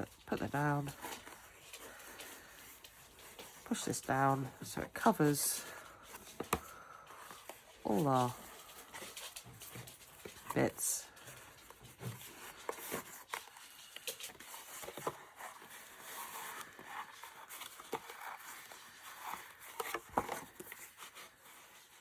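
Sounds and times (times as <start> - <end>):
paper rustling: 0.0 - 22.0.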